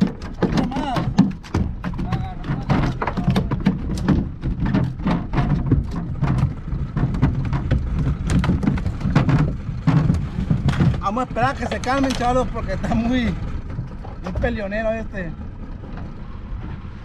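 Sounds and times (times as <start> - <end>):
fish slapping boat hull: 0.0 - 16.8.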